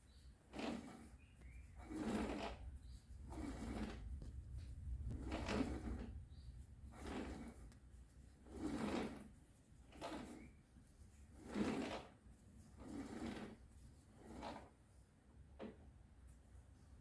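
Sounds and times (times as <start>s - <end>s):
slow rubbing or scraping strokes: 0.0s - 15.2s.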